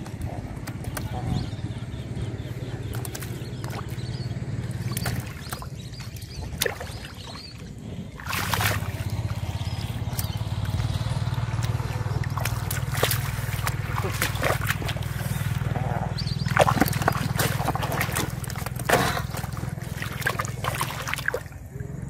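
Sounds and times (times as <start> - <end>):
low motor hum: 0.0 - 22.0
splashes in muddy water: 2.5 - 22.0.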